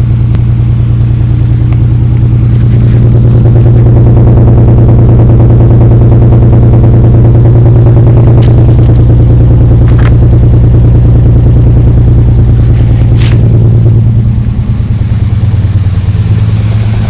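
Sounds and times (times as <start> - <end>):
car engine running: 0.0 - 17.0
engine knocking: 0.0 - 17.0.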